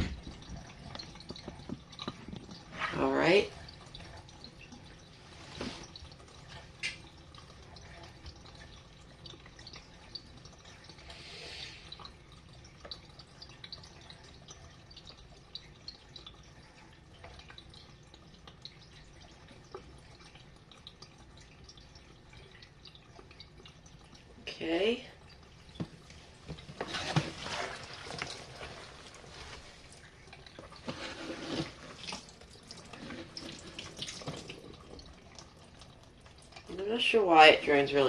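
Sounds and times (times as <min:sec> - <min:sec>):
water dripping and trickling: 0:00.0 - 0:38.0.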